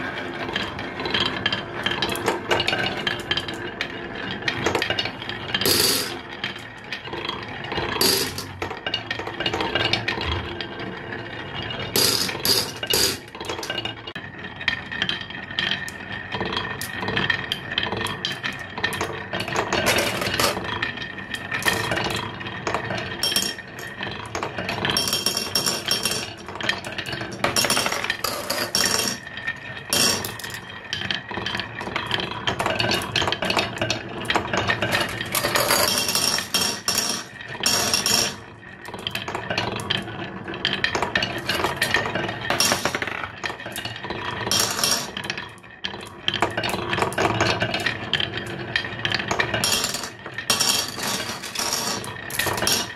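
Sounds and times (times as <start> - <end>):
marbles rolling on wooden tracks: 0.0 - 52.9
marbles clicking: 0.6 - 7.3, 8.0 - 10.7, 11.9 - 14.2, 15.0 - 52.9.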